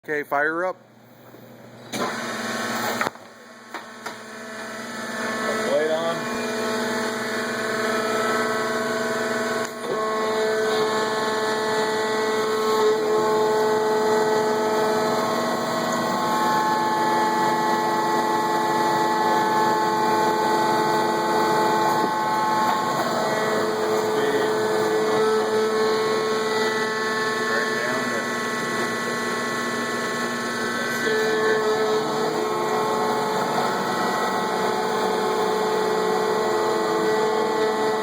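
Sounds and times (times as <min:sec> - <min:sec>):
bandsaw machine hum: 0:01.9 - 0:38.0.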